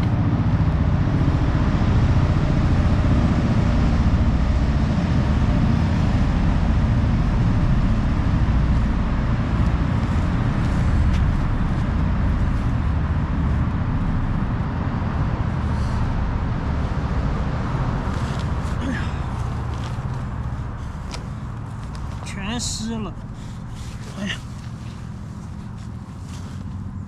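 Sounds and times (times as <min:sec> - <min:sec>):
wind buffeting microphone: 0:00.0 - 0:22.3.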